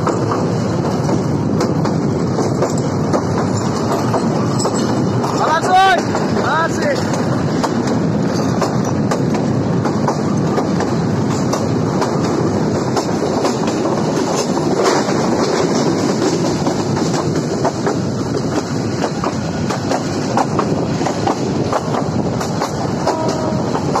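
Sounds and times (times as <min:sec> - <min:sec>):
clickety-clack over rail joints: 0:00.0 - 0:24.0
train wheels rumbling on rails: 0:00.0 - 0:24.0.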